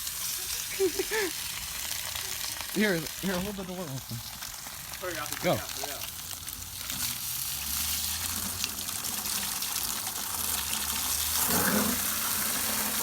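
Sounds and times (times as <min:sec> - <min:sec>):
garden hose spraying water: 0:00.0 - 0:13.0.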